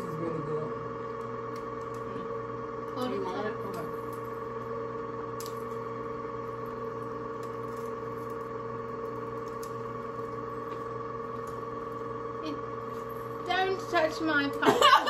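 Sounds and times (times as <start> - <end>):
chocolate fountain motor hum: 0.0 - 15.0.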